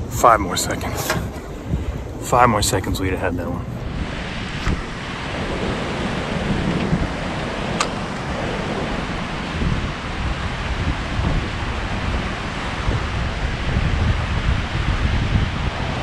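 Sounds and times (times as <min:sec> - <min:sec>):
churning water rushing: 0:00.0 - 0:16.0
wind buffeting microphone: 0:00.0 - 0:16.0.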